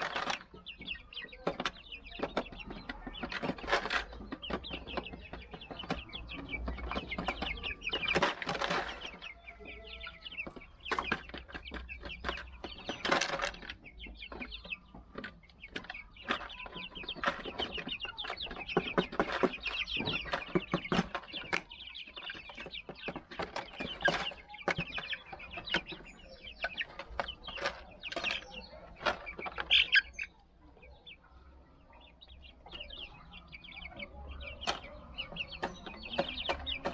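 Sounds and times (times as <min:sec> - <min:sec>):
beaks pecking on plastic: 0:00.0 - 0:30.4, 0:32.3 - 0:36.9
chicks peeping and clucking: 0:00.0 - 0:36.9.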